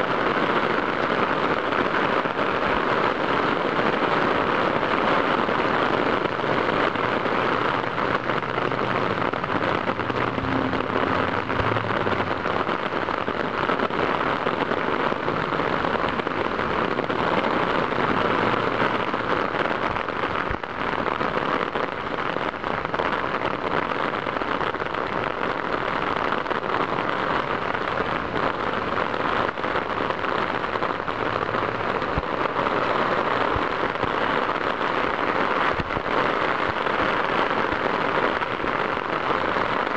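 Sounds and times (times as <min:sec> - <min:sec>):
muffled rain patter: 0:00.0 - 0:39.9.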